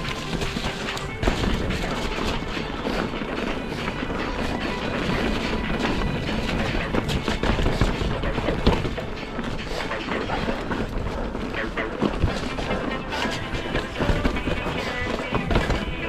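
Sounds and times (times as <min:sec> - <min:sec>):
bike knocking and rattling: 0:00.0 - 0:16.0
tyres on dirt: 0:00.0 - 0:16.0.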